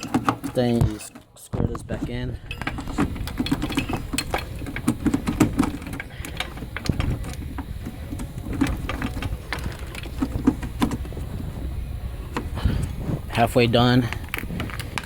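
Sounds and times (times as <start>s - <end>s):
plastic parts clicking and rattling: 0.0s - 11.4s, 12.3s - 15.0s.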